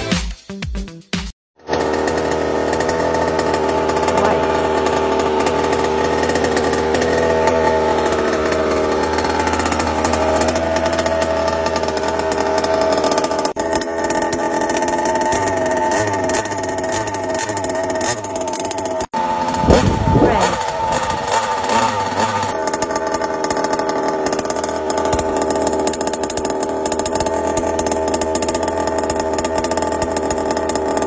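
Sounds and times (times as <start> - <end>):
car engine revving: 1.8 - 27.0.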